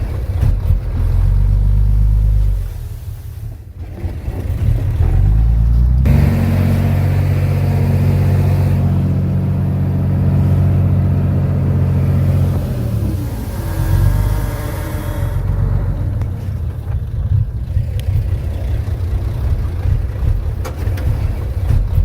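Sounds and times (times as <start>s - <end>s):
heavy diesel engine under load: 0.0s - 22.0s.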